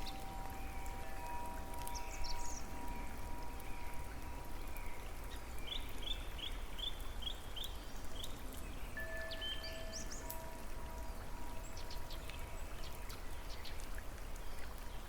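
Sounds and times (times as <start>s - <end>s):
rushing water or rain: 0.0s - 15.0s
small birds chirping: 0.0s - 15.0s.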